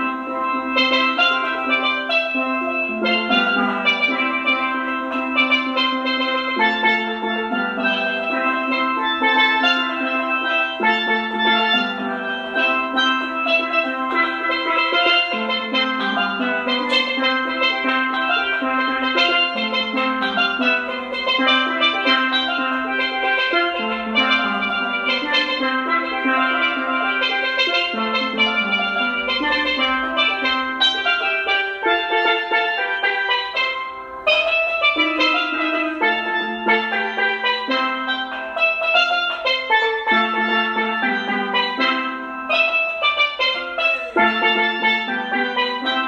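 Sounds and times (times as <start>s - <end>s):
steel pans playing melody: 0.0s - 46.0s.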